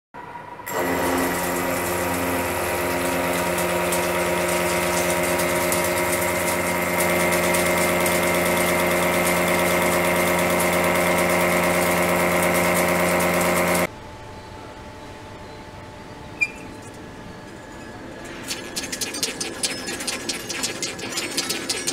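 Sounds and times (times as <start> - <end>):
milling cutter machining steel: 0.7 - 13.9, 17.2 - 21.9.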